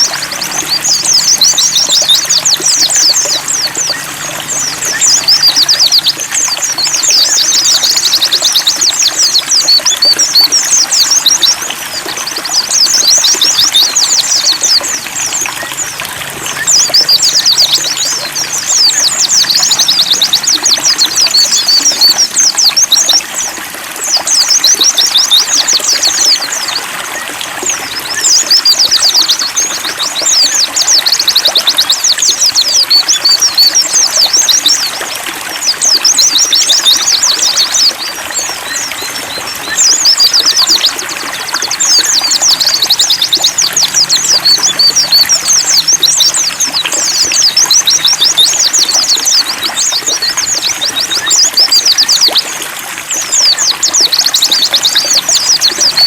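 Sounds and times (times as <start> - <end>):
birds twittering: 0.0 - 56.0
water trickling: 0.0 - 56.0.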